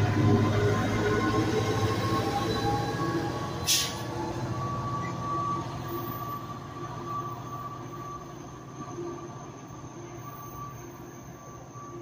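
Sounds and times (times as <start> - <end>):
diesel locomotive drone: 0.0 - 12.0
train high whine: 0.0 - 12.0.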